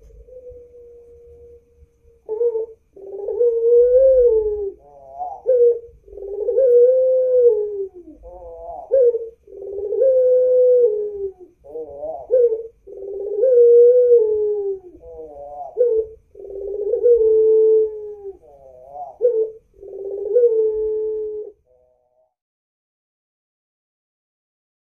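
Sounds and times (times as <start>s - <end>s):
dove cooing: 0.0s - 22.4s.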